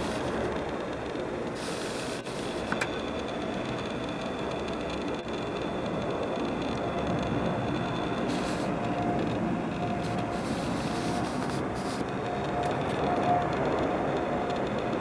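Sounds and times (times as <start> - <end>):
faint jet engine whine: 0.0 - 15.0
jet airliner flying overhead: 0.0 - 15.0.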